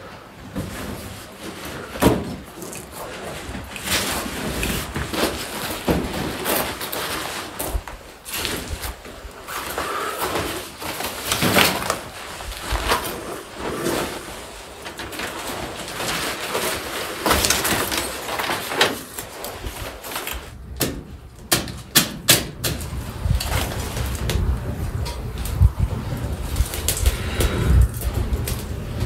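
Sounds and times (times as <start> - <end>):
leafy branches rustling and crackling: 0.0 - 21.9, 22.6 - 29.0.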